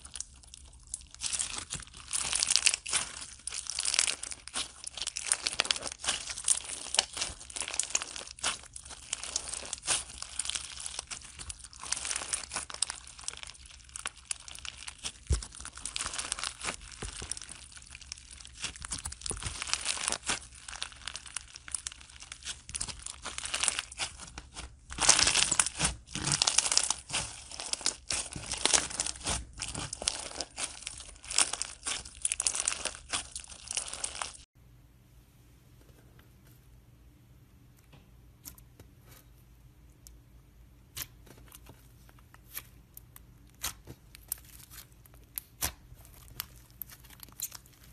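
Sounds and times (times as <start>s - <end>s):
crunchy slime crackling and popping: 0.0s - 34.5s, 40.9s - 47.9s.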